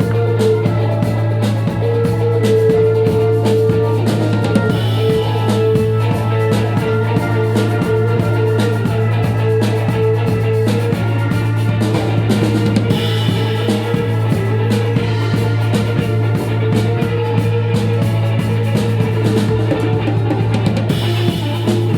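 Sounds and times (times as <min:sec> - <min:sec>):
drum kit playing: 0:00.0 - 0:21.9
hand percussion: 0:00.0 - 0:21.9
low bass tone: 0:00.0 - 0:21.9
organ sustained notes: 0:00.0 - 0:21.9.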